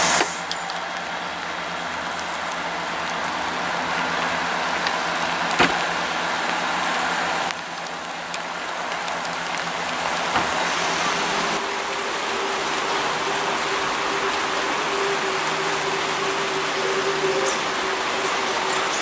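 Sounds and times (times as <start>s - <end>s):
diesel train running: 0.0s - 19.0s
train approaching with whine: 0.0s - 19.0s.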